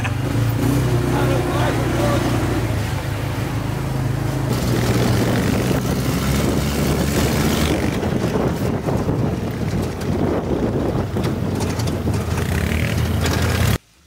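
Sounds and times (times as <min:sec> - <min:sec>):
quad bike engines running: 0:00.0 - 0:13.8.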